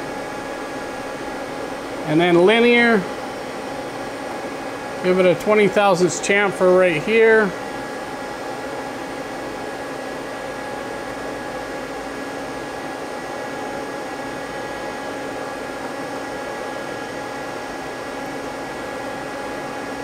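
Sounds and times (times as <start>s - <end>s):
electrical hum: 0.0s - 20.0s
fan-like whir: 0.0s - 20.0s.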